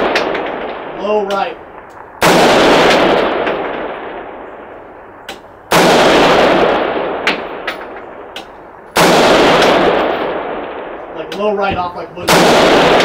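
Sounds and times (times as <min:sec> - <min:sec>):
faint sharp cracks: 0:00.0 - 0:02.1, 0:02.8 - 0:05.5, 0:07.0 - 0:13.0
rifle shot echoing: 0:00.0 - 0:13.0.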